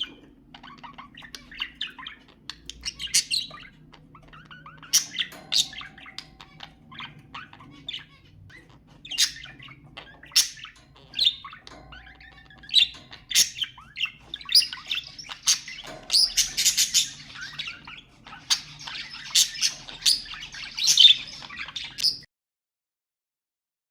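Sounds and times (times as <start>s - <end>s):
budgerigars chirping and chattering: 0.0s - 22.3s.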